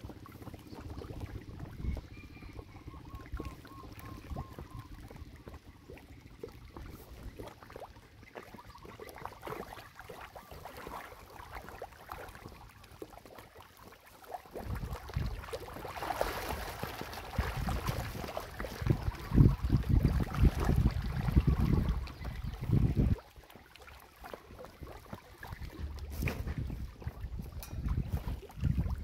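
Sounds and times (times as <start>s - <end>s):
fish splashing in water: 0.0s - 29.0s.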